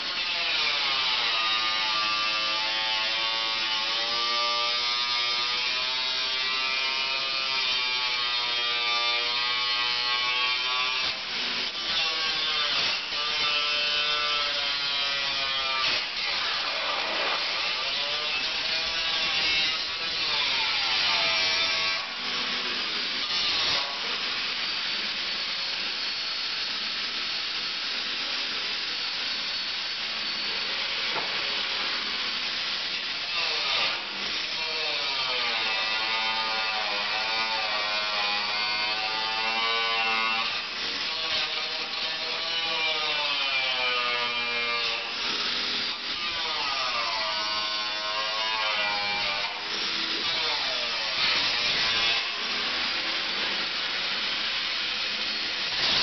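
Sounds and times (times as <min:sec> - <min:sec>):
angle grinder cutting steel: 0:00.0 - 0:56.0.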